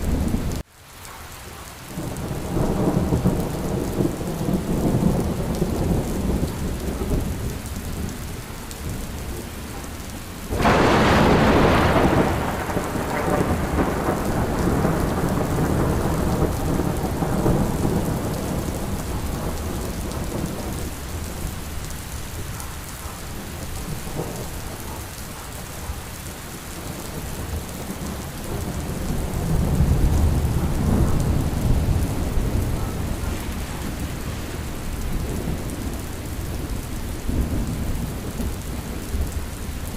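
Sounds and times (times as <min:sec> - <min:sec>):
thunder rumbling: 0:00.0 - 0:00.6, 0:01.9 - 0:39.9
steady rain: 0:00.0 - 0:39.9.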